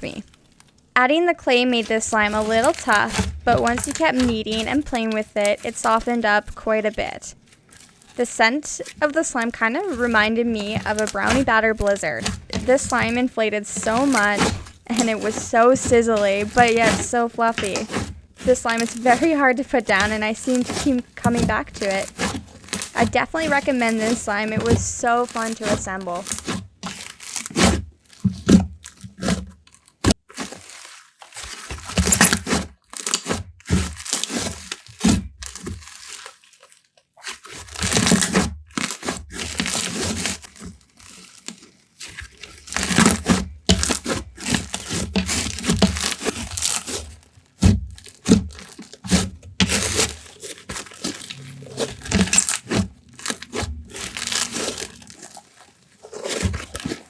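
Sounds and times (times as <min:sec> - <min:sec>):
hands squishing slime: 0:01.4 - 0:29.4, 0:30.0 - 0:57.0.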